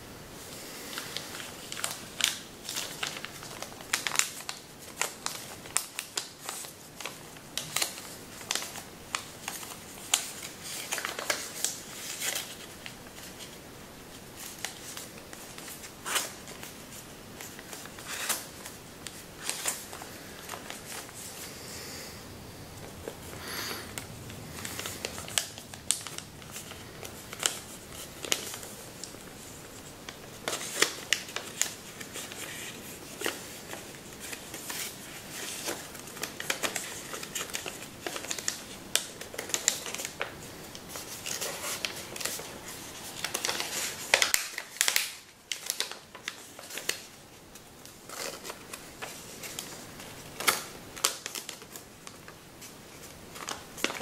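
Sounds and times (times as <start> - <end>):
paper crinkling and crackling: 0.8 - 21.6, 22.7 - 54.0.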